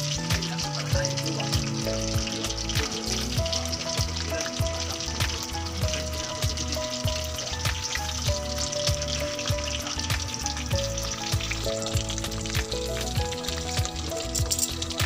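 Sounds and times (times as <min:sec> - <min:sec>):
background music with low beat: 0:00.0 - 0:15.0
fish frying in hot oil: 0:00.0 - 0:15.0.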